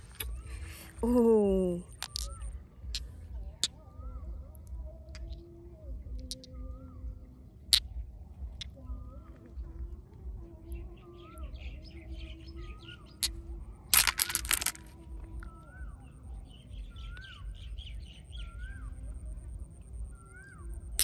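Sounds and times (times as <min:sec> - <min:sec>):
soft bird twittering: 0:00.0 - 0:13.9, 0:14.9 - 0:21.0.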